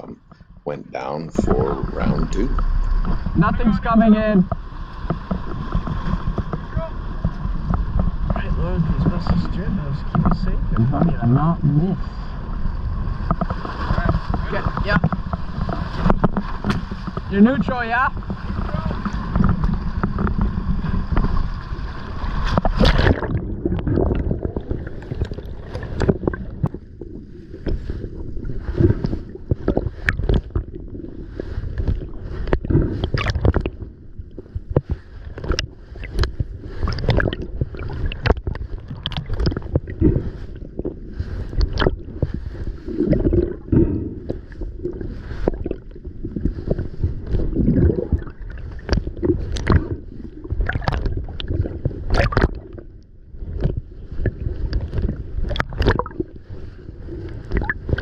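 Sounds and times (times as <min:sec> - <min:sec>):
underwater bubbling and knocks: 0:00.0 - 0:58.0.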